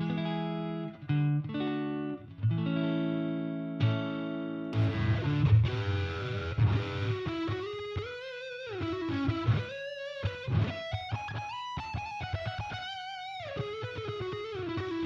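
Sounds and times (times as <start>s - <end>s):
electric guitar lead line: 0.0s - 15.0s.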